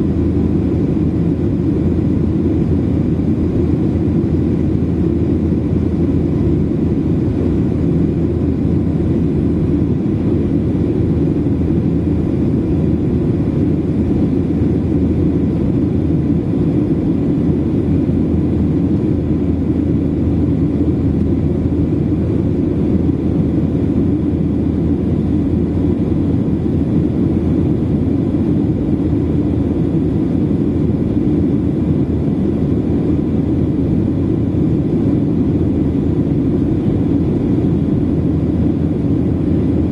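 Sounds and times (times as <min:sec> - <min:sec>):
airliner engine rumble: 0:00.0 - 0:39.9.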